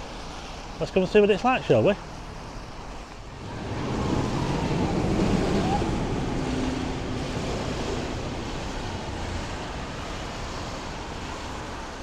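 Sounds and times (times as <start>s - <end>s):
wind buffeting microphone: 2.2s - 12.0s.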